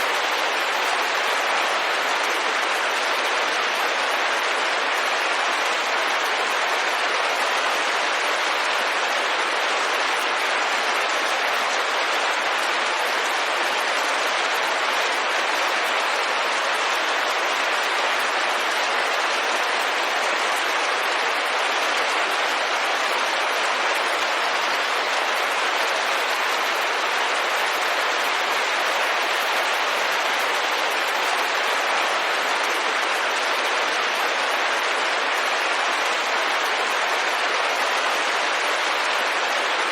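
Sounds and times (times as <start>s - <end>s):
rain pattering on window: 0.0s - 39.9s.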